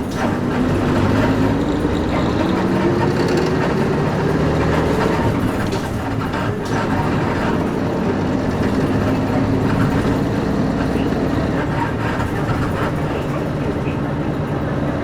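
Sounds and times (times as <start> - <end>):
bus diesel engine pulling: 0.0 - 15.0.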